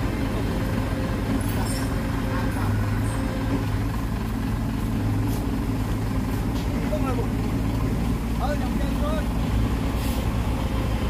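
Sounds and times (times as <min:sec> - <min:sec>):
heavy diesel machinery humming: 0:00.0 - 0:11.0.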